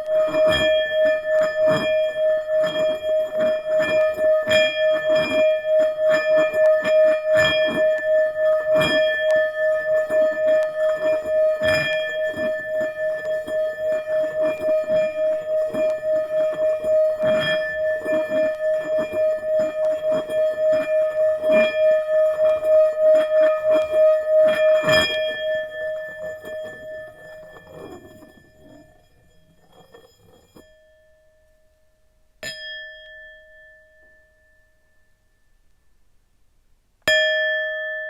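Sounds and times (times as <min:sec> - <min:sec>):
singing bowl ringing: 0:00.0 - 0:35.7, 0:37.1 - 0:38.0.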